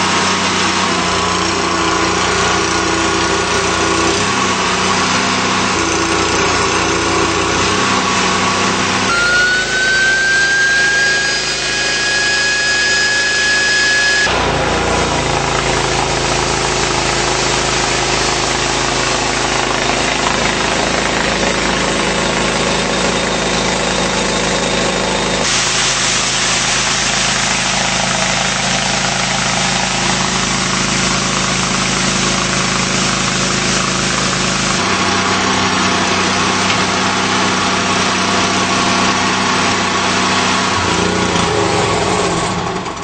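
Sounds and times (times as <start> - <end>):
high whine: 0.0 - 43.0
truck engine running: 0.0 - 43.0.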